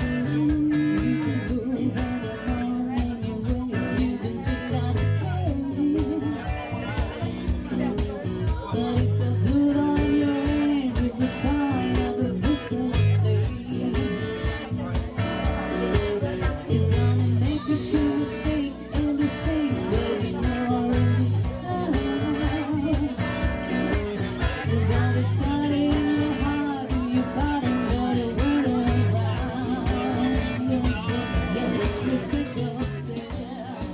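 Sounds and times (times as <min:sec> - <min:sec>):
electric bass: 0:00.0 - 0:33.9
electric guitar: 0:00.0 - 0:33.9
person singing: 0:00.0 - 0:33.9
steady drum beat: 0:00.0 - 0:33.9.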